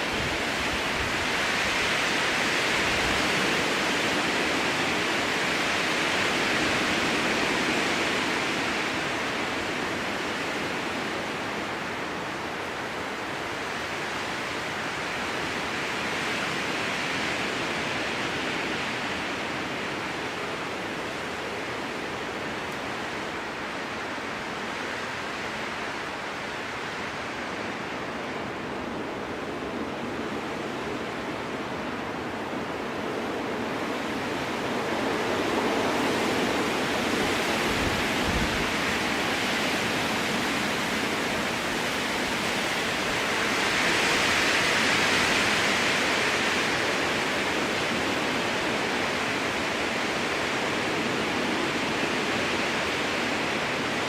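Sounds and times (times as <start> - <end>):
strong wind through forest: 0.0 - 54.0.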